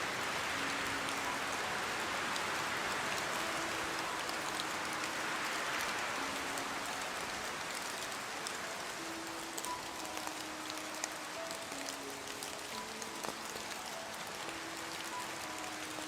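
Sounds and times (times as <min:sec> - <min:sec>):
faint soft background music: 0:00.0 - 0:16.0
steady rainfall: 0:00.0 - 0:16.0.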